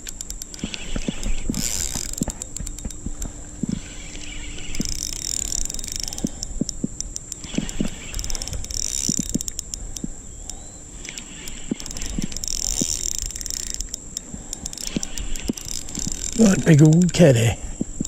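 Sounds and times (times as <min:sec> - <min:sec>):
fishing reel clicking: 0:00.0 - 0:18.0.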